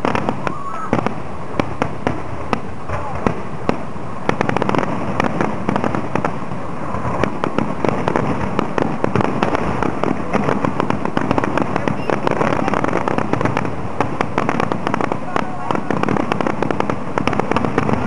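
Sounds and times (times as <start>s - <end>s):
firework bangs: 0.0s - 18.0s
rumble of bursting shells: 0.0s - 18.0s.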